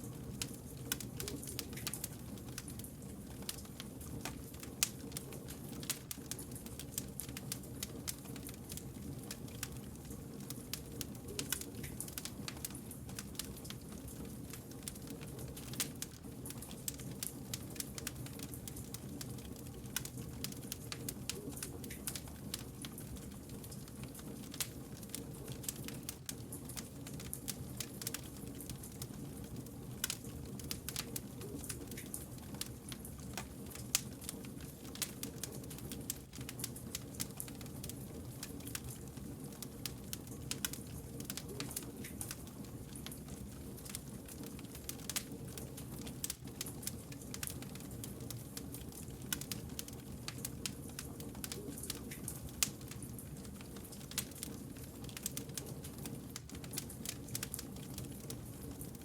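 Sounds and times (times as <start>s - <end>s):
low rumble of flames: 0.0s - 59.0s
wood fire crackling: 0.0s - 59.0s.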